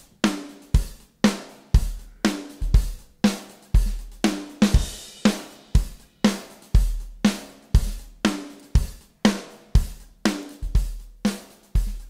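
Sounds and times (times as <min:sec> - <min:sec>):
drum kit steady beat: 0:00.0 - 0:12.0.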